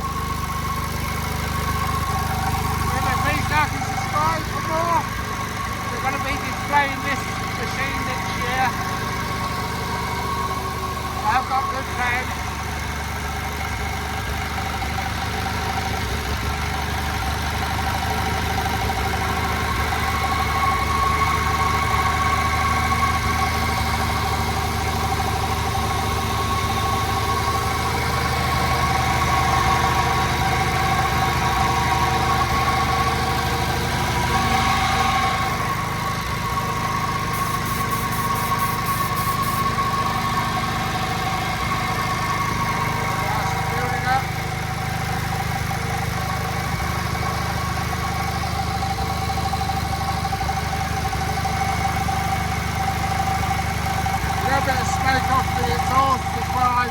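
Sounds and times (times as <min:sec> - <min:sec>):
generator whine: 0:00.0 - 0:56.9
stationary engine running: 0:00.0 - 0:56.9.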